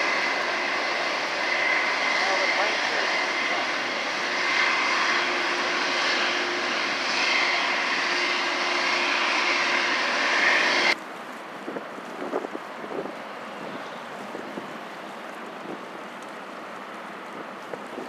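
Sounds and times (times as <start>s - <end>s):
jet engines running: 0.0s - 18.0s
wind: 0.0s - 18.0s.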